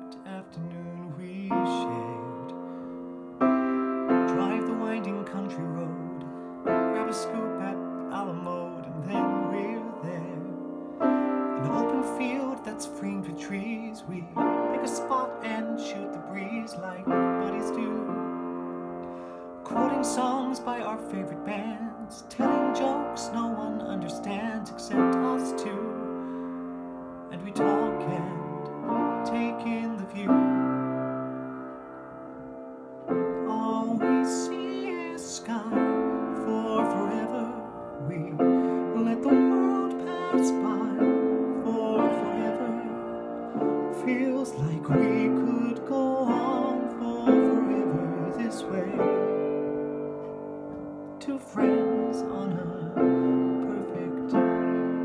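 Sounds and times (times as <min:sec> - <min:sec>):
man singing: 0:00.0 - 0:02.7, 0:04.1 - 0:18.3, 0:19.6 - 0:26.2, 0:27.3 - 0:31.0, 0:33.1 - 0:49.7, 0:51.2 - 0:55.0
piano chords: 0:00.0 - 0:55.0.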